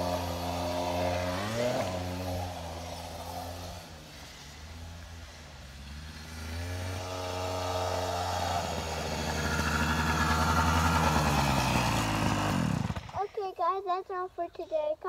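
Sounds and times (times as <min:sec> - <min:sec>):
dirt bike engine running: 0:00.0 - 0:13.3.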